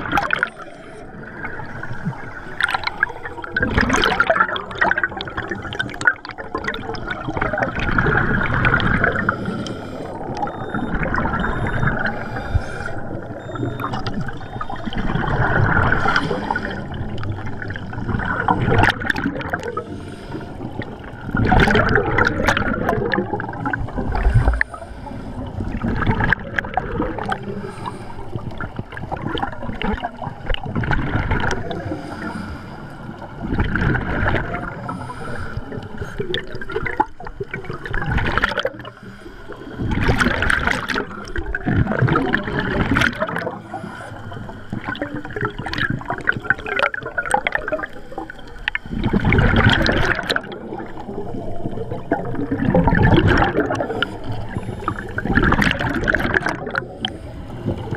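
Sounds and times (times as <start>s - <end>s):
underwater breath bubbles: 0.0s - 57.9s.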